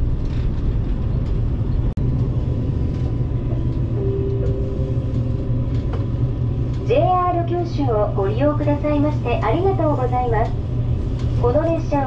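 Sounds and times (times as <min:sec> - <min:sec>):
train running rumble: 0:00.0 - 0:12.0
two-tone train hum: 0:00.0 - 0:12.0.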